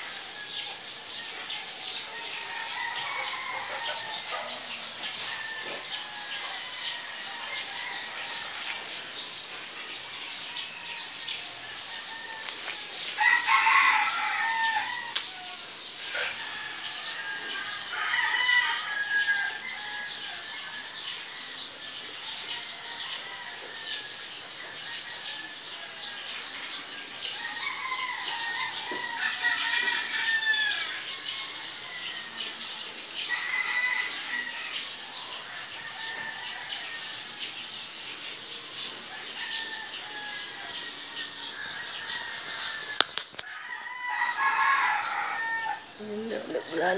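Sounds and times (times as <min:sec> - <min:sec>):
rooster crowing: 0:00.0 - 0:46.9.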